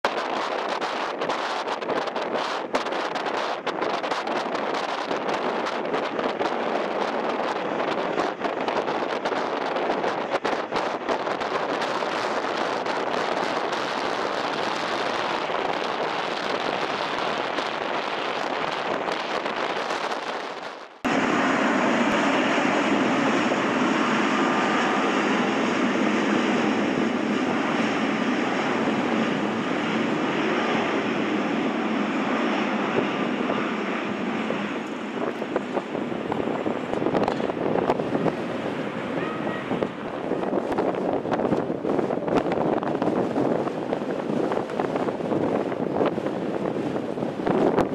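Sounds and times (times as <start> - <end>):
jet engines running: 0.0 - 47.9
wind noise on microphone: 0.0 - 47.9.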